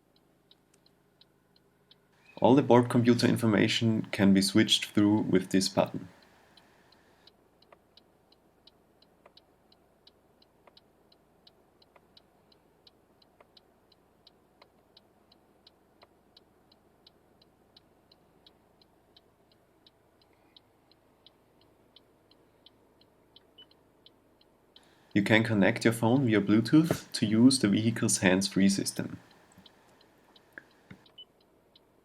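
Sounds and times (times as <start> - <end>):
faint regular ticking: 0.0 - 32.0.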